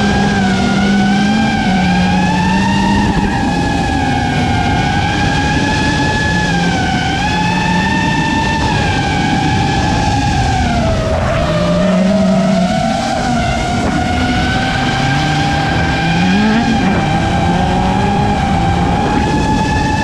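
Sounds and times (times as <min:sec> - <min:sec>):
quadcopter motors whining: 0:00.0 - 0:20.0
race car engines revving: 0:00.0 - 0:20.0.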